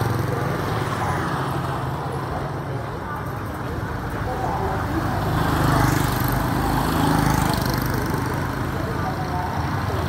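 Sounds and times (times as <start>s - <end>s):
motorbikes passing by: 0.0s - 10.0s.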